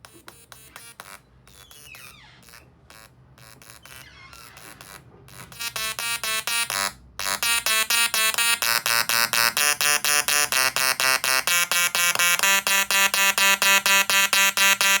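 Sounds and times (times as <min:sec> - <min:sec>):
tesla coil buzzing in pulses: 0:00.0 - 0:15.0.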